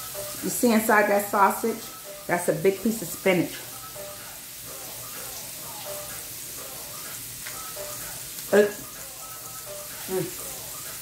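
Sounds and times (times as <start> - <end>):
scallops sizzling in a skillet: 0.0 - 11.0.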